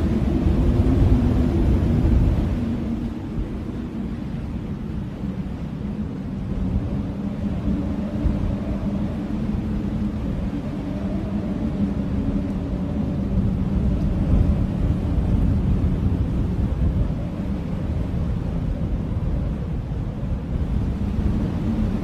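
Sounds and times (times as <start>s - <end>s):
blizzard wind rumbling: 0.0s - 22.0s
low howling tone: 0.0s - 22.0s.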